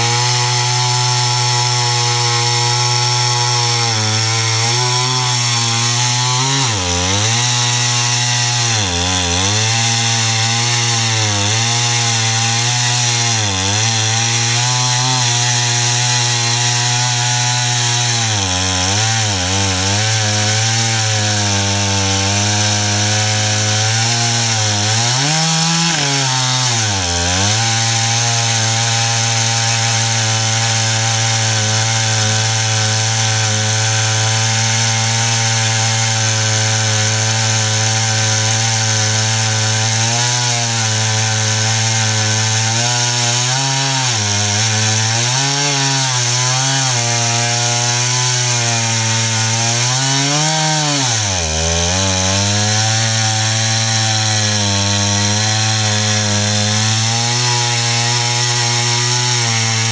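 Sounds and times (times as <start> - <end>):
chainsaw cutting at full throttle: 0.0 - 59.9.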